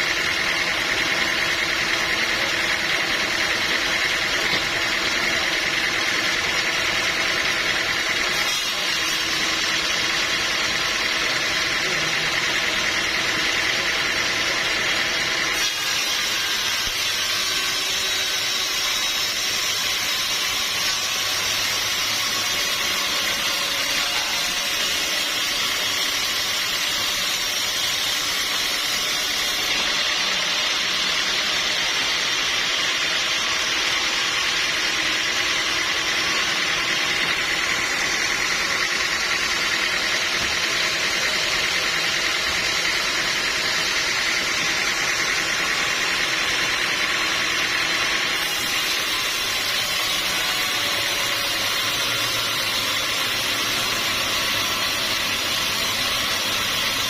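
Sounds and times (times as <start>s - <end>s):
saw hissing through log: 0.0s - 57.0s.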